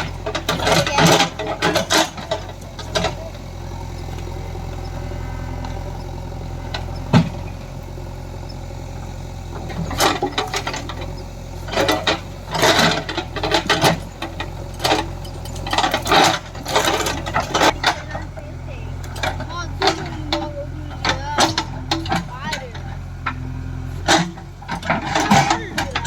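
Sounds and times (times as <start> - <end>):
machine clanks and scrapes: 0.0 - 7.6, 9.6 - 26.0
diesel engine running: 0.0 - 26.0.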